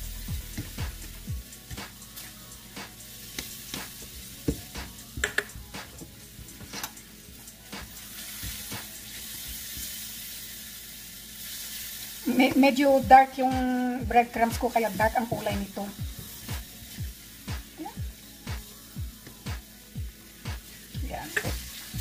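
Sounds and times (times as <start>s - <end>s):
soft sizzling: 0.0s - 22.0s.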